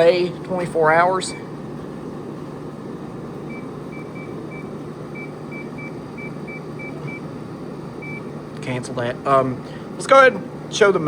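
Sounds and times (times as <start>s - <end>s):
air conditioner fan and compressor humming: 0.0s - 11.0s.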